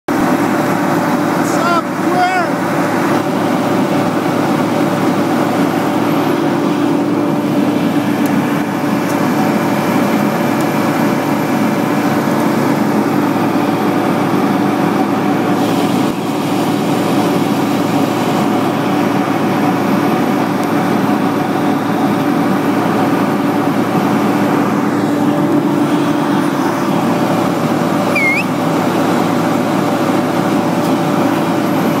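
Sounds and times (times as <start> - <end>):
diesel engines droning: 0.1 - 32.0.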